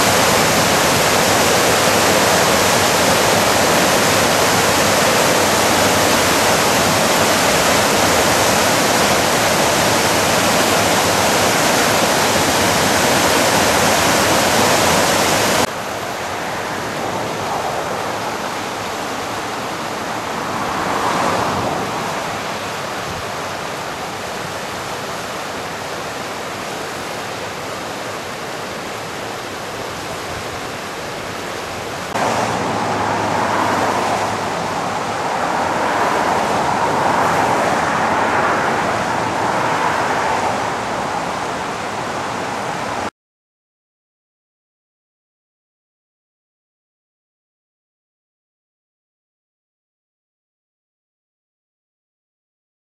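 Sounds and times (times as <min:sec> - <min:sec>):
whitewater rushing: 0:00.0 - 0:43.1.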